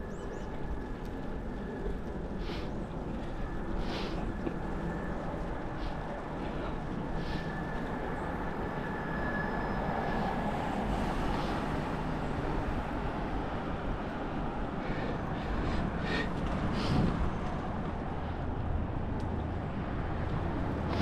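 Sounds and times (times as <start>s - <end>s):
bicycle tyres rolling on pavement: 0.0s - 21.0s.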